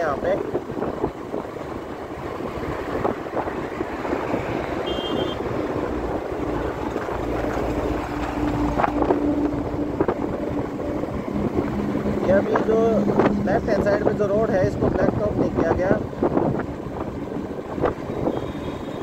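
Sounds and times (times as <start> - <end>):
vehicle rumbling along road: 0.0 - 19.0
wind buffeting microphone: 0.0 - 19.0.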